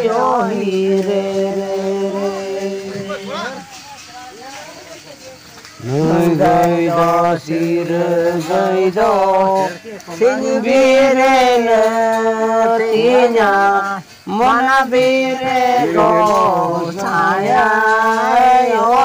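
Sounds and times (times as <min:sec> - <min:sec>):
man singing chant-like song: 0:00.0 - 0:03.8, 0:05.8 - 0:19.0.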